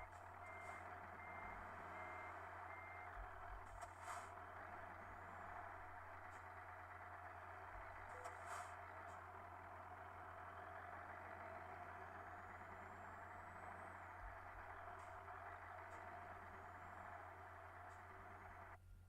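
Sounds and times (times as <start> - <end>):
truck running: 0.0 - 18.8.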